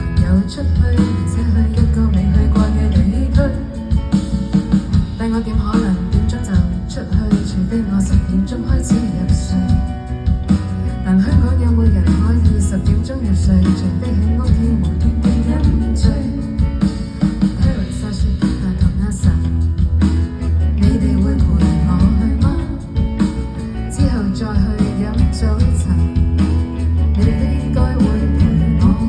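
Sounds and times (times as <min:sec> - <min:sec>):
person singing: 0:00.0 - 0:04.2, 0:05.2 - 0:16.8, 0:17.4 - 0:19.8, 0:20.6 - 0:29.0
guitar: 0:00.0 - 0:29.0
heavy bass line: 0:00.0 - 0:29.0.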